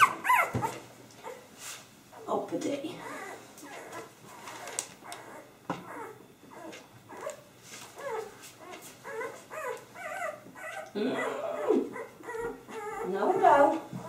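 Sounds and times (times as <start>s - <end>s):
puppies whimpering and squealing: 0.0s - 1.5s, 2.1s - 14.0s.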